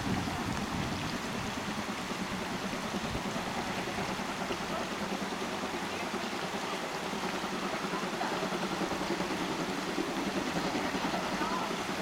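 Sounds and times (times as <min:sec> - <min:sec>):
steam locomotive exhaust rumble: 0:00.0 - 0:12.0.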